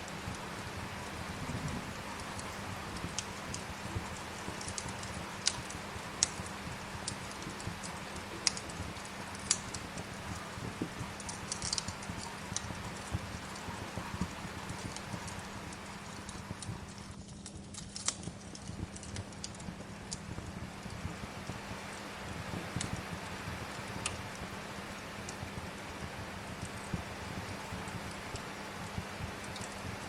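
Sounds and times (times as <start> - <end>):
hiss of rain: 0.0 - 30.0
wood fire crackling and popping: 0.0 - 30.0.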